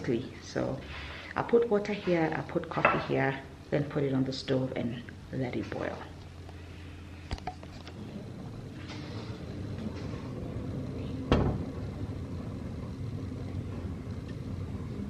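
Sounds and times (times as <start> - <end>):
gas burner flame rumble: 0.0 - 15.0.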